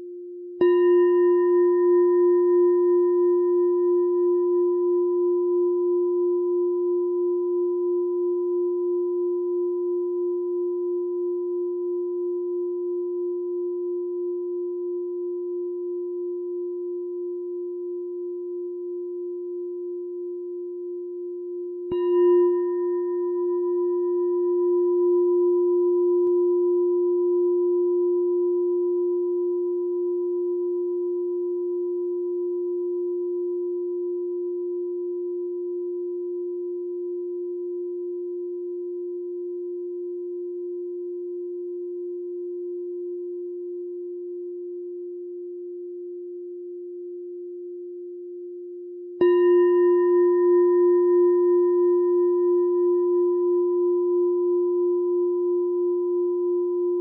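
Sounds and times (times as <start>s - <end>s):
meditation bell ringing: 0.6s - 47.8s, 49.2s - 57.0s.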